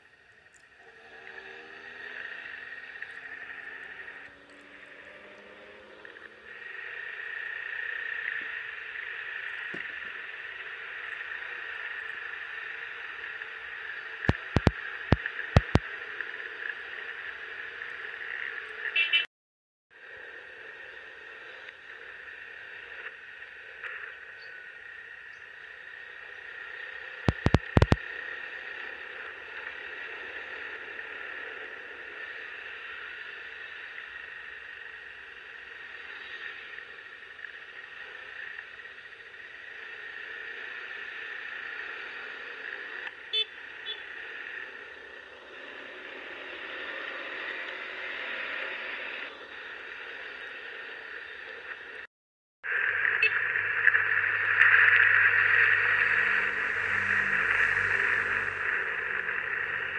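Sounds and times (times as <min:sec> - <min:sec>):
vehicle running on road: 0:00.0 - 0:19.3, 0:19.9 - 0:59.9.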